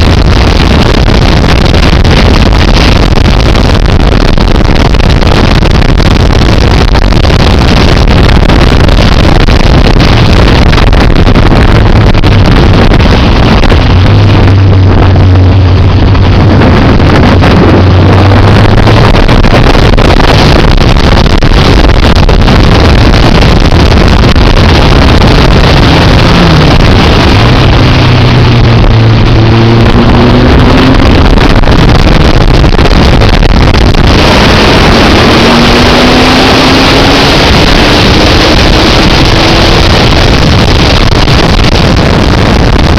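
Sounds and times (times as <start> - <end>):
motorcycle engine at speed: 0.0 - 42.9
wind buffeting on microphone: 0.0 - 42.9.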